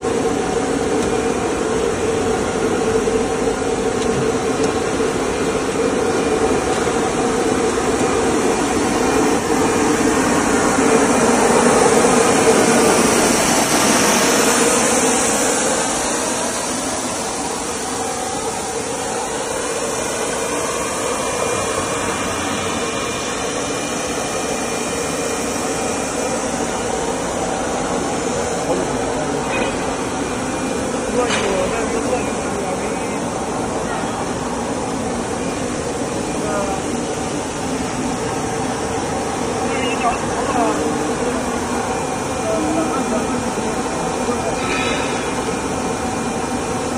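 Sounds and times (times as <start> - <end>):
machine hum and whir: 0.0 - 46.9.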